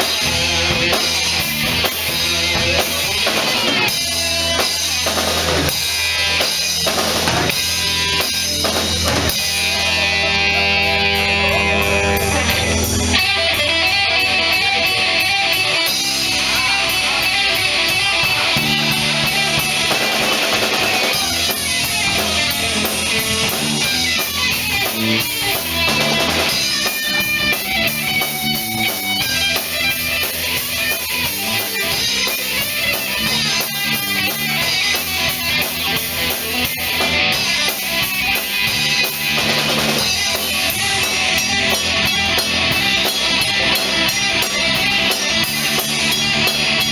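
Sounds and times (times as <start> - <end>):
bass guitar: 0.0 - 46.9
drum kit beat: 0.0 - 46.9
electric guitar: 0.0 - 46.9.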